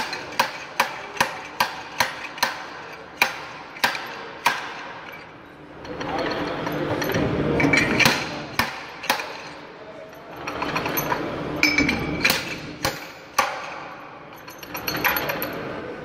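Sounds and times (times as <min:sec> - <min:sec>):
steel parts clinking and scraping: 0:00.0 - 0:15.8.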